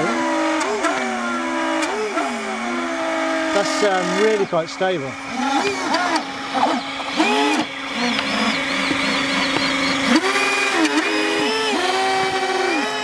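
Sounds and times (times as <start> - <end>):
electric fans whining: 0.0 - 13.0
steady drone: 0.0 - 13.0.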